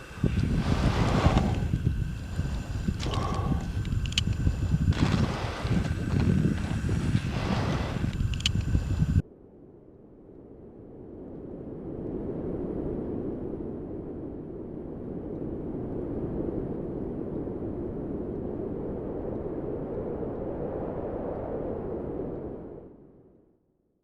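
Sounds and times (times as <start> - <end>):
steady low rumbling: 0.0 - 20.4.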